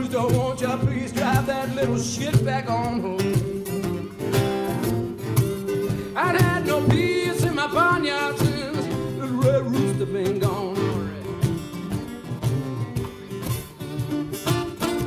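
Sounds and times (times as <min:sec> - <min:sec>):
acoustic guitars strumming: 0:00.0 - 0:15.0
cajon beat: 0:00.0 - 0:15.0.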